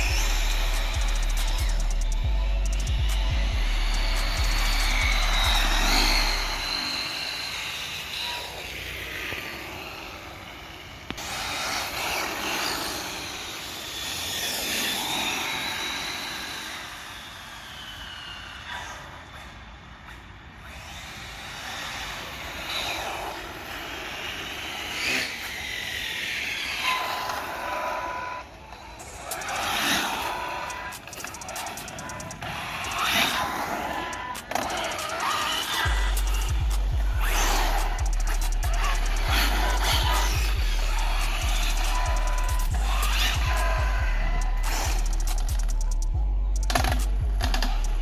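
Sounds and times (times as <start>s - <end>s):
rc car motors whining: 0.0s - 48.0s.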